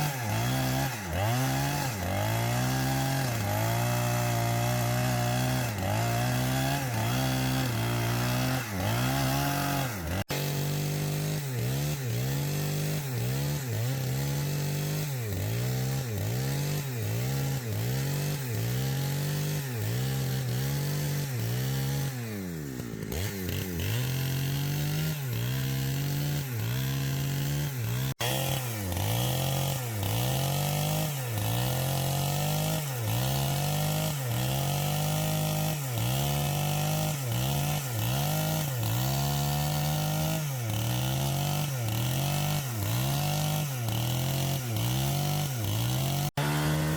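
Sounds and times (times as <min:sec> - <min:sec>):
chainsaw cutting log: 0:00.0 - 0:46.9.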